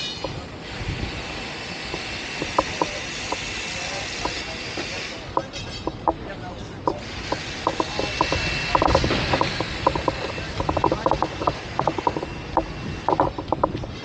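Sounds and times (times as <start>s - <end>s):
sharp clicks: 1.8s - 14.0s.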